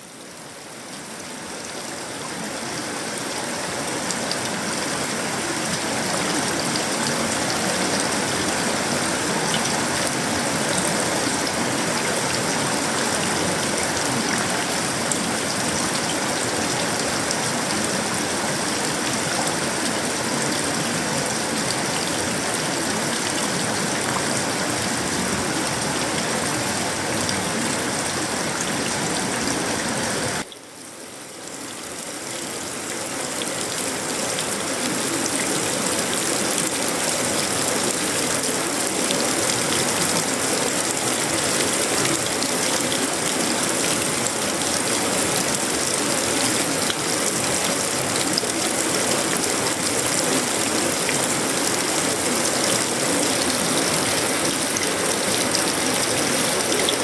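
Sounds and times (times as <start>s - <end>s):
heavy rain on metal roofing: 0.0s - 57.0s.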